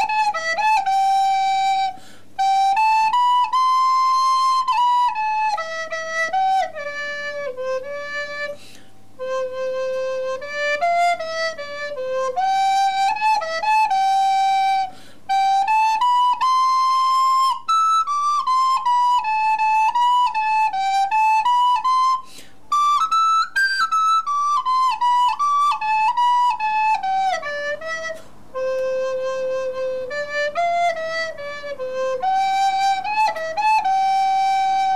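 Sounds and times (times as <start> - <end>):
recorder playing melody: 0.0 - 34.9.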